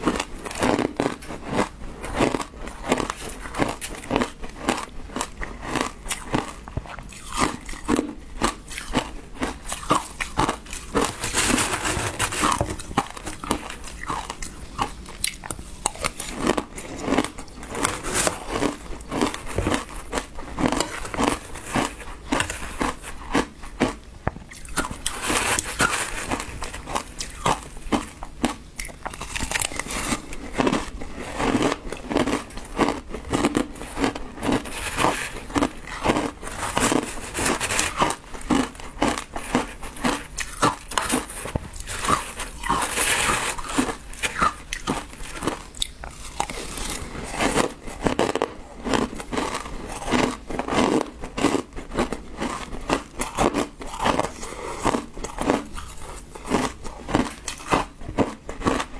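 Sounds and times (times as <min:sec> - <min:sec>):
chewing crunchy shaved ice: 0:00.0 - 0:58.9.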